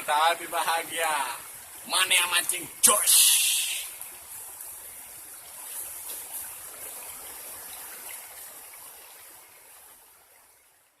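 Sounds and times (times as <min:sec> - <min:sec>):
river water rushing: 0:00.0 - 0:10.4.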